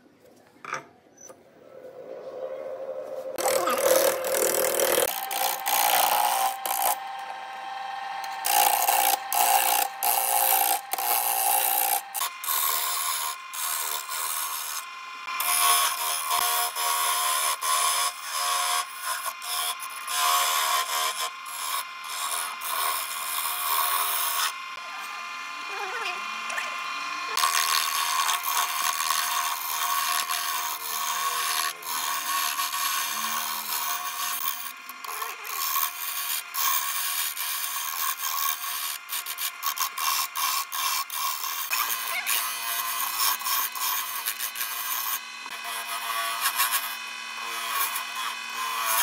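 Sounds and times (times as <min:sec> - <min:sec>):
lathe motor whine: 0:01.6 - 0:49.0
chisel scraping spinning wood: 0:03.2 - 0:49.0.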